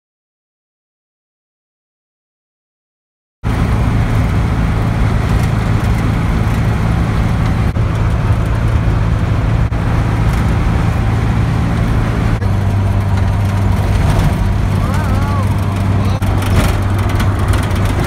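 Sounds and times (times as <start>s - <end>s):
car engine running: 3.4s - 18.0s
tyre and wind noise: 3.4s - 18.0s.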